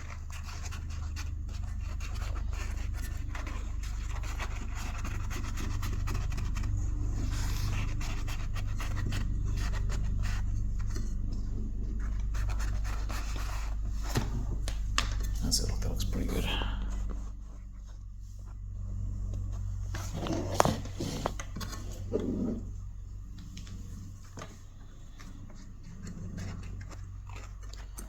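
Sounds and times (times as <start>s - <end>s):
foam scratching and rubbing: 0.0s - 28.0s
steady low hum: 0.0s - 28.0s.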